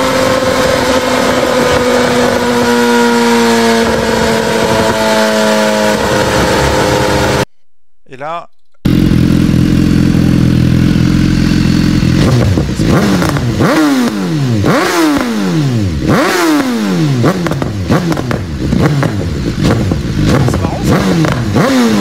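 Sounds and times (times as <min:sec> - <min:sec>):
motorcycle engine idling and revving: 0:00.0 - 0:07.5, 0:08.7 - 0:22.0.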